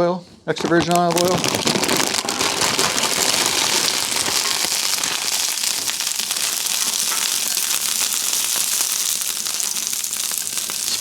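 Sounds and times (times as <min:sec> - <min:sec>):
fries sizzling in hot oil: 0:02.2 - 0:11.0.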